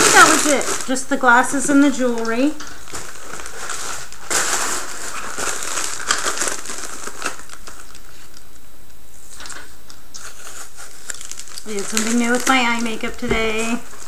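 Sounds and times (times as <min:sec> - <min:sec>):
packaging crinkling and rustling: 0:00.0 - 0:08.6, 0:09.2 - 0:14.0.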